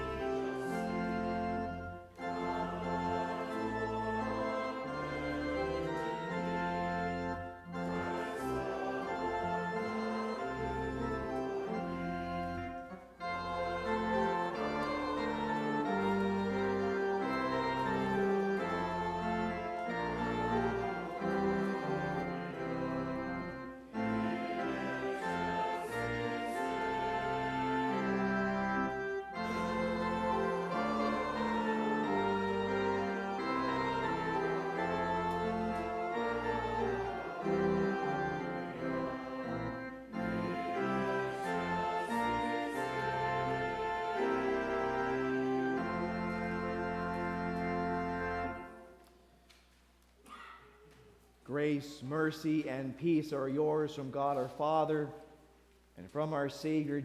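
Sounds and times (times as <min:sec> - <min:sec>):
church organ playing chords: 0:00.0 - 0:49.1.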